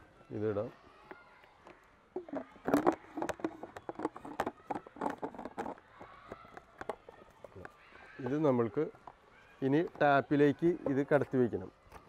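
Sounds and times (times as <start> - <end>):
light plastic clicks and knocks: 1.0 - 12.0.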